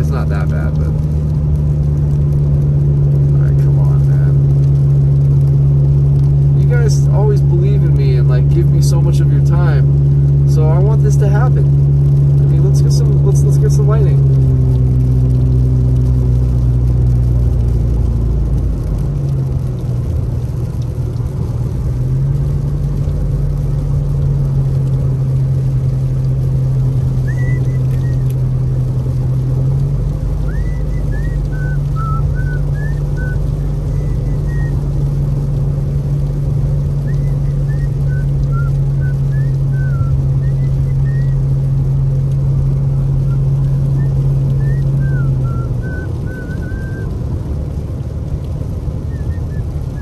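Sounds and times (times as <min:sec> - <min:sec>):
car engine and tyre drone: 0:00.0 - 0:50.0.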